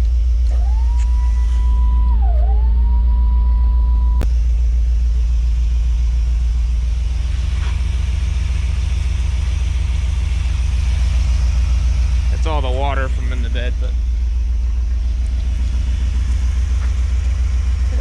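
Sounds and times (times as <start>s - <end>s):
high whine: 0.0s - 18.0s
truck engine idling: 0.0s - 18.0s.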